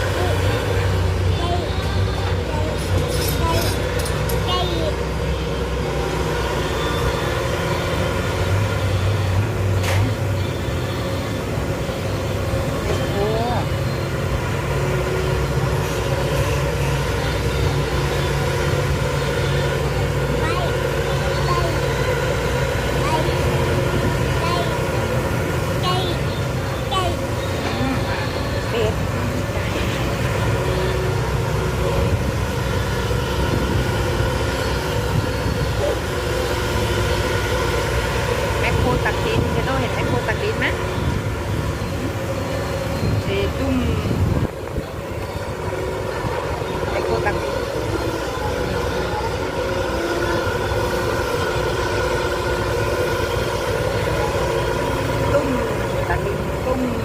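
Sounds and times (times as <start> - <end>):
backhoe engine running: 0.0 - 57.0.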